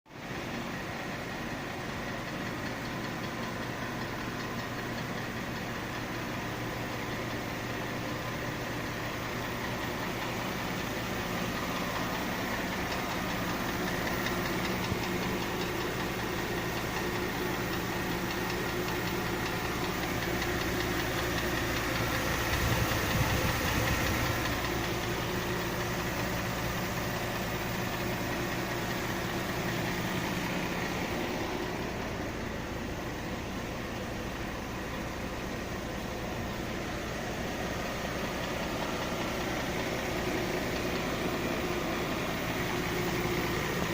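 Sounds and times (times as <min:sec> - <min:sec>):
car engine running: 0:00.1 - 0:43.9
engine knocking: 0:00.1 - 0:43.9.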